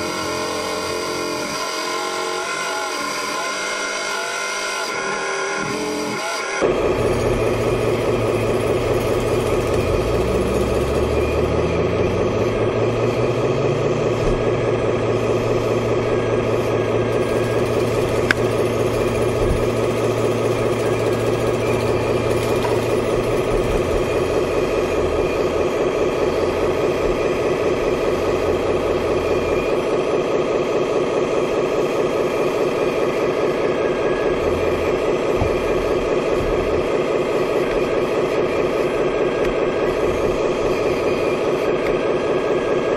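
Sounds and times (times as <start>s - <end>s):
hydraulic pump pulsing hum: 0.0s - 42.9s.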